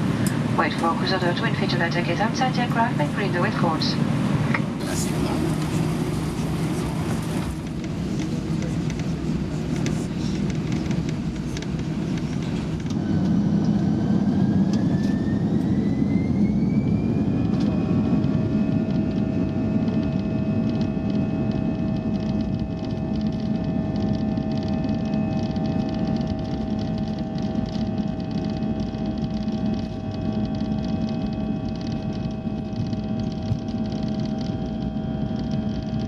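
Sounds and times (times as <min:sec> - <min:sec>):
jet engine whine: 0:00.0 - 0:36.0
jet engines rumbling in cabin: 0:00.0 - 0:36.0.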